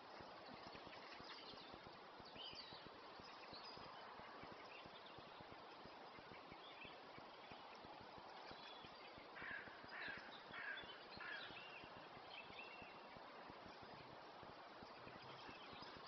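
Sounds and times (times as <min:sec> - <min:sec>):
distant songbirds: 0:00.0 - 0:16.0
steady background hiss: 0:00.0 - 0:16.0.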